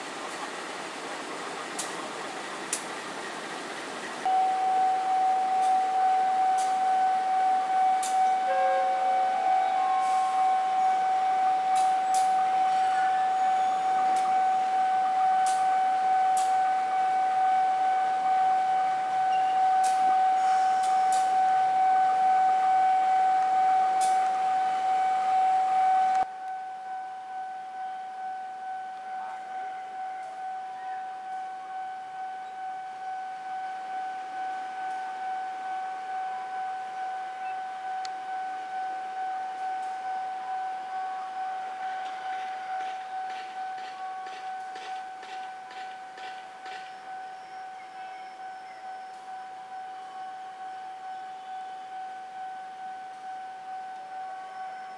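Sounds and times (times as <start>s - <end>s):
diesel locomotive high whine: 0.0s - 54.9s
level crossing alarm ringing: 4.2s - 54.9s.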